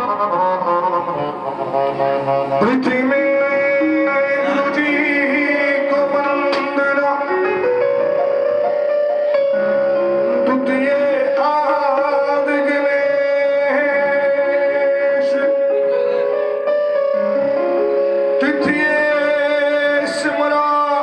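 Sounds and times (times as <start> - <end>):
devotional melody in held notes: 0.0 - 21.0.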